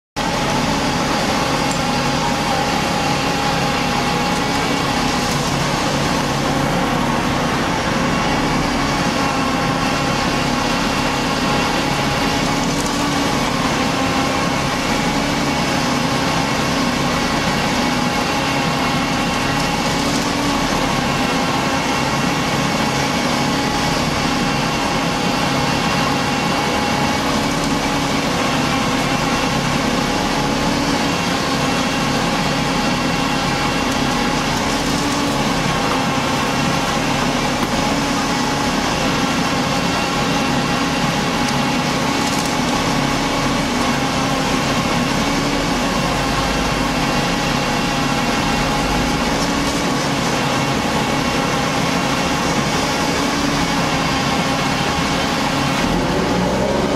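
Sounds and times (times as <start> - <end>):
diesel engine and mixing drum drone: 0.2 - 56.9.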